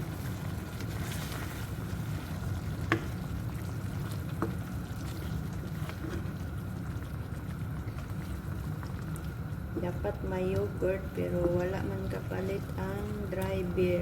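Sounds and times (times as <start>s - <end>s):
sauce bubbling and sizzling in pan: 0.0s - 13.9s.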